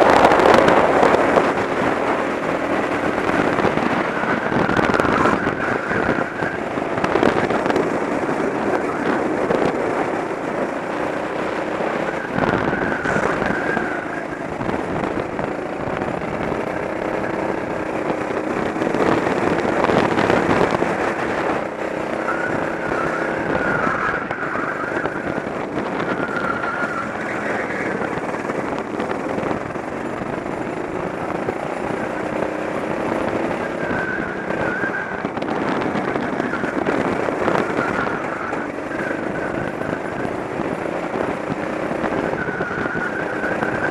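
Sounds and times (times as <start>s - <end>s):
go-kart engine revving: 0.0s - 43.9s
road noise: 0.0s - 43.9s
wind rush: 0.0s - 43.9s.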